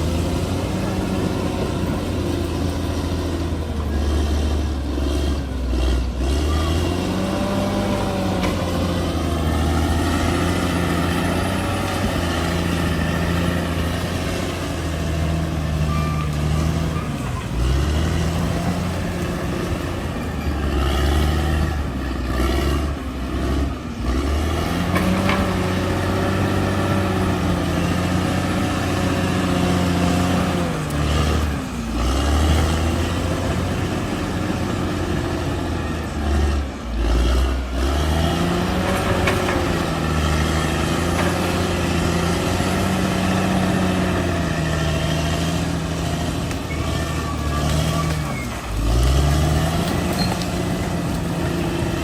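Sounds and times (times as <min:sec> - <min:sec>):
bulldozer diesel engine revving: 0:00.0 - 0:52.0.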